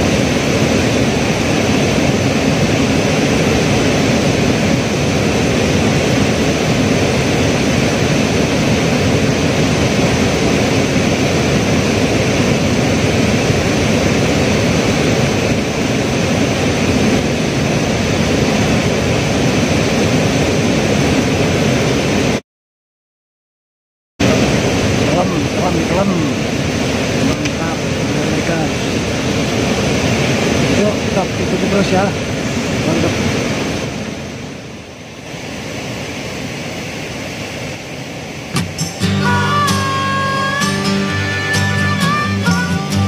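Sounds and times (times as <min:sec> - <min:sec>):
fast-flowing river rushing: 0:00.0 - 0:22.4, 0:24.2 - 0:43.0.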